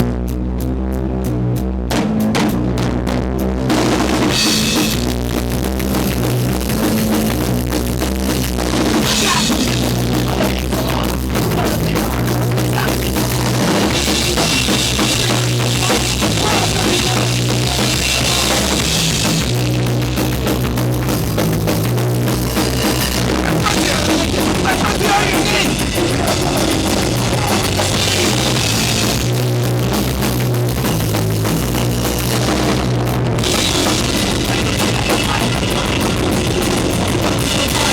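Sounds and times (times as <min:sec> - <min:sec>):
bass guitar: 0:00.0 - 0:37.9
drum kit with cymbals: 0:01.9 - 0:37.9.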